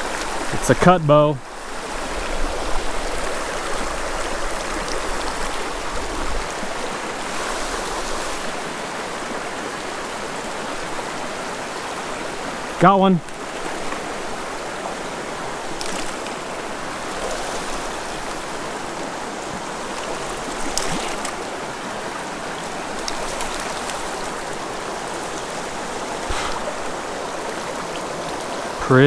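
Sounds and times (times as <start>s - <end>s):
creek rushing over stones: 0.0s - 29.0s.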